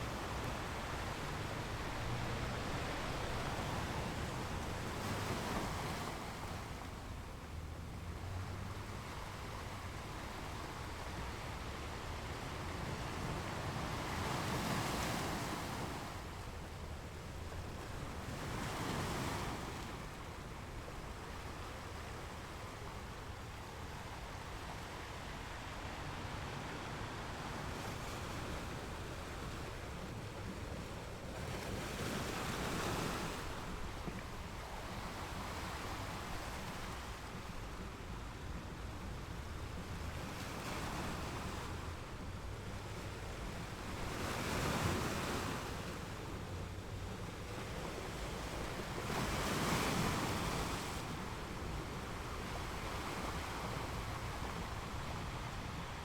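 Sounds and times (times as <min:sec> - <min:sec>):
ocean waves on a beach: 0:00.0 - 0:56.0.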